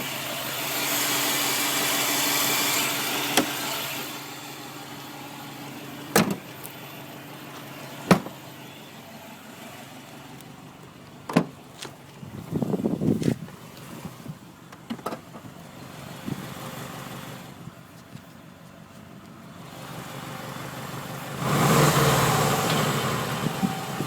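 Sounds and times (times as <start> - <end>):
car engine whine: 0.0 - 24.0.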